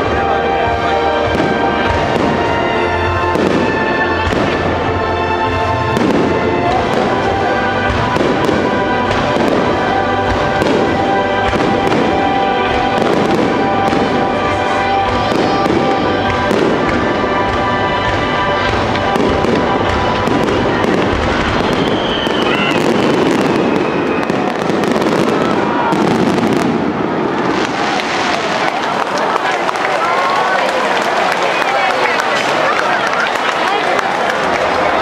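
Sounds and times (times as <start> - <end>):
music playing: 0.0 - 35.0
fireworks bursting: 1.2 - 29.2.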